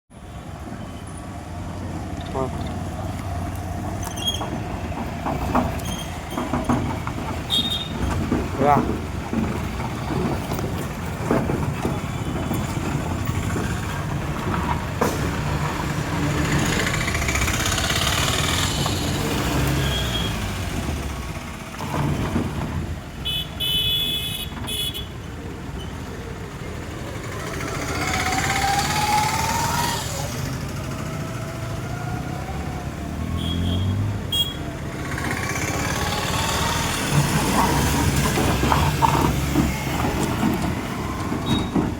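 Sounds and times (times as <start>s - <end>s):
off-road vehicle engine revving: 5.2s - 23.2s, 26.3s - 41.9s.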